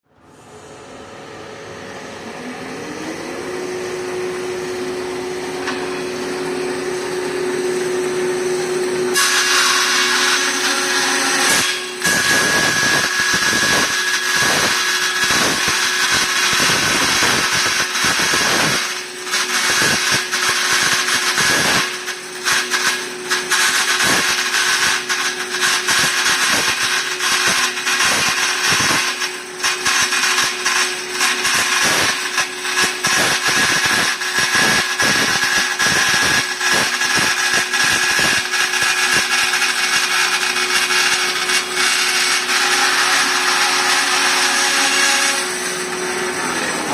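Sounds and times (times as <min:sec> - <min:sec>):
band saw motor hum: 0:00.1 - 0:46.9
band saw cutting with ringing: 0:00.9 - 0:46.9.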